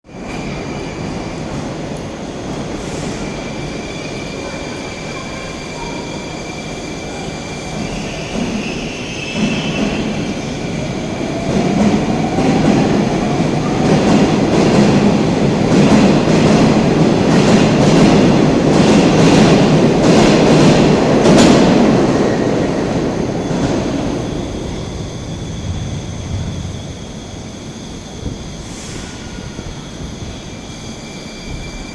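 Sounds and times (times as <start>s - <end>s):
train rail rumble: 0.1s - 31.9s.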